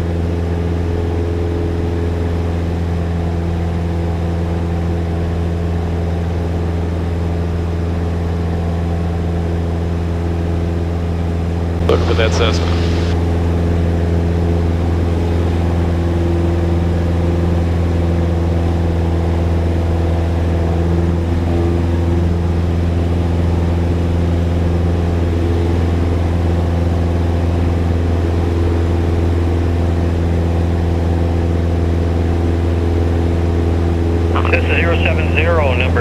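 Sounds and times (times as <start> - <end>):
propeller aircraft engine drone: 0.0 - 36.0.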